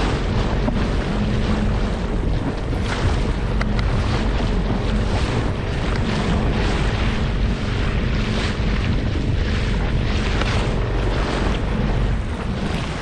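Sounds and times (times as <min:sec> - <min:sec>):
outboard motor running: 0:00.0 - 0:13.0
wind noise on microphone: 0:00.0 - 0:13.0.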